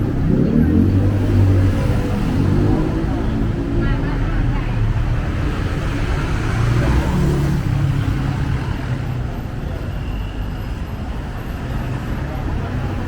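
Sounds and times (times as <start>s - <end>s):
steady traffic rumble: 0.0s - 13.0s.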